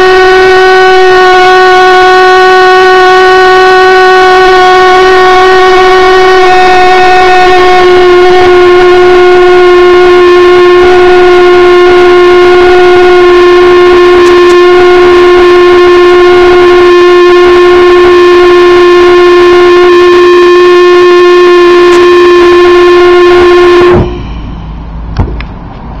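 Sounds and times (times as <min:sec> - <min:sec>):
pulsejet engine droning: 0:00.0 - 0:26.0.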